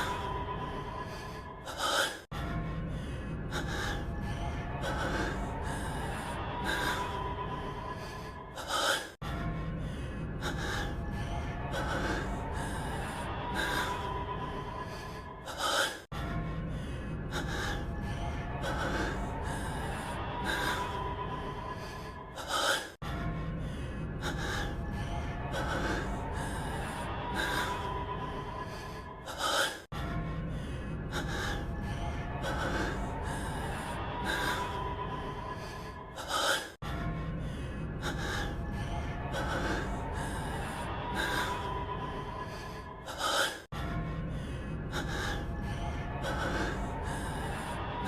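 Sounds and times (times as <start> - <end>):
faint background music: 0.0 - 48.0
man breathing heavily: 0.0 - 48.0.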